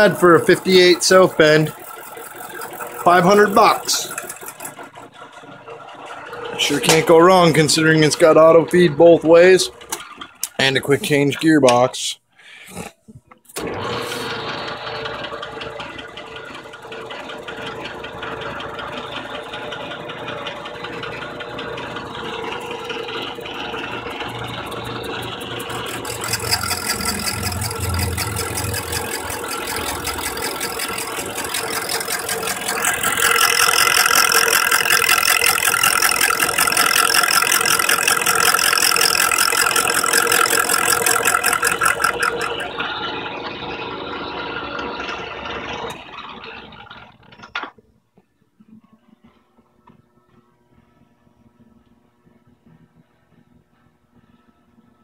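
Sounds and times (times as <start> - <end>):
lathe motor hum and rattle: 0.0 - 11.4, 13.6 - 47.8
lathe tool cutting plastic: 0.0 - 11.8, 13.6 - 47.7.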